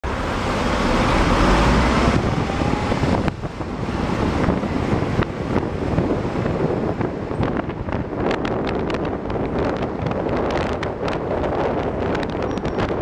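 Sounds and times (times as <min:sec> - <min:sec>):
road traffic: 0:00.0 - 0:13.0
wind buffeting microphone: 0:00.1 - 0:13.0.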